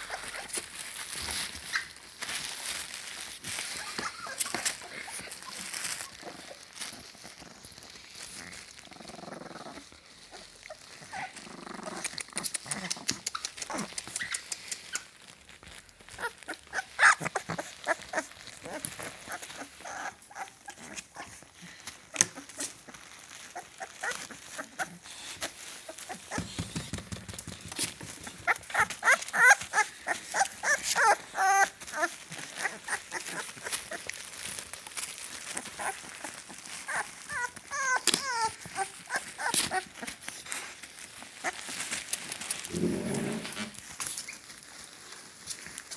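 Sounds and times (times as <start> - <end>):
puppies whining: 0.0 - 26.9, 27.8 - 45.0.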